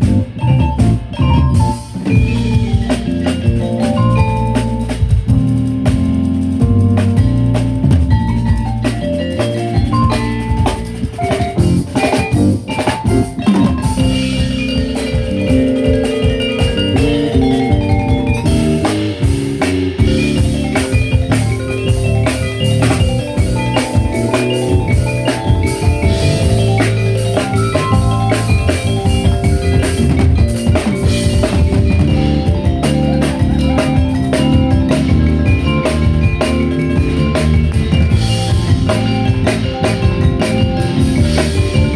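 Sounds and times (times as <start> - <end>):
bass: 0.0 - 41.9
drum kit and percussion: 0.0 - 41.9
melodic pitched instruments: 0.0 - 41.9.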